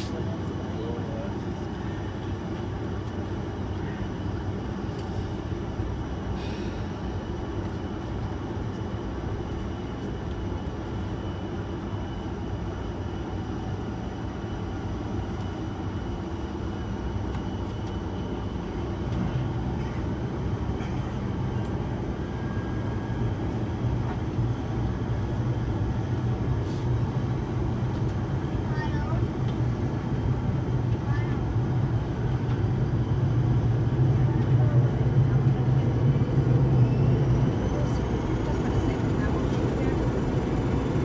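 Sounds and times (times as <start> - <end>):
airliner cabin engine drone: 0.0 - 41.0.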